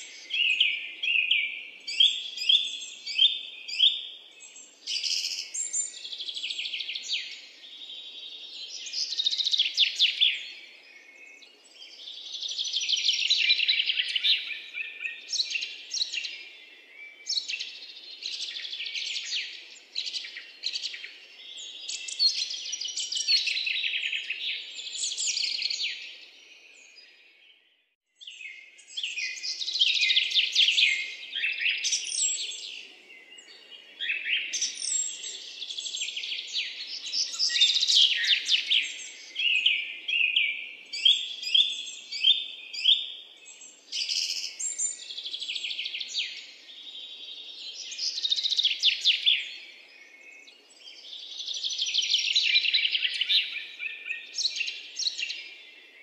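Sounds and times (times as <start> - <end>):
birds chirping and singing: 0.0 - 27.6, 28.2 - 56.0.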